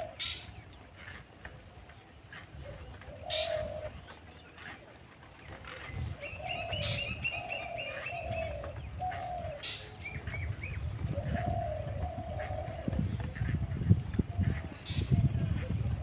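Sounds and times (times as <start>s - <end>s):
doves cooing: 0.0s - 16.0s.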